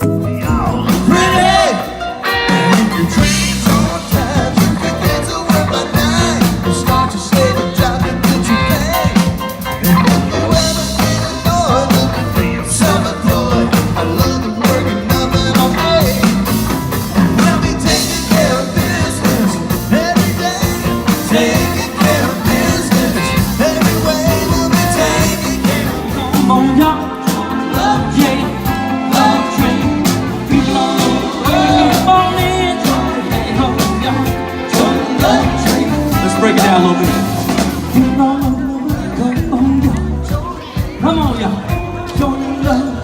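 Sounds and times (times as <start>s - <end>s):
live band playing soul rock: 0.0s - 43.0s.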